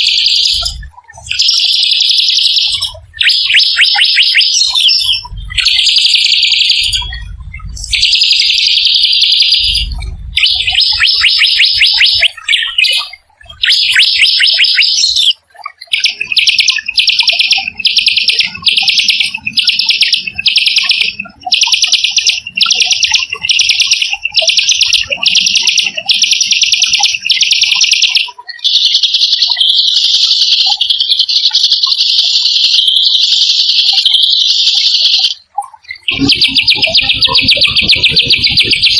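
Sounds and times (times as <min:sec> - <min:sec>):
songbird singing harsh trills: 0:00.0 - 0:38.9.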